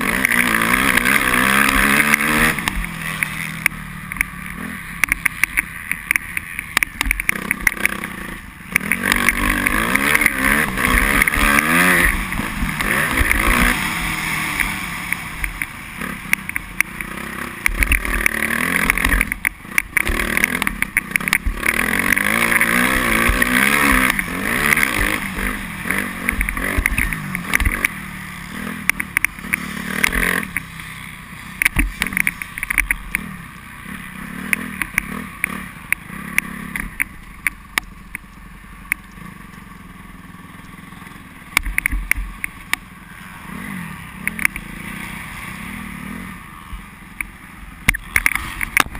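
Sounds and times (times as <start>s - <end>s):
motocross bike engine revving: 0.0s - 37.8s, 39.1s - 48.9s.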